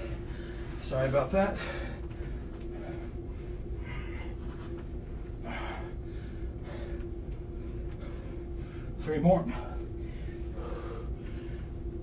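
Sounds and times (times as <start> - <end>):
man breathing hard: 0.0 - 0.8, 1.4 - 4.8, 5.4 - 12.0
steady low hum: 0.0 - 12.0.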